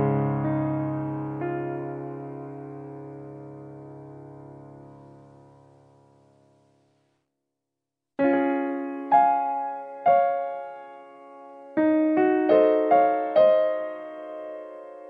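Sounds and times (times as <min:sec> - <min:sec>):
piano notes: 0:00.0 - 0:06.8, 0:08.2 - 0:15.0.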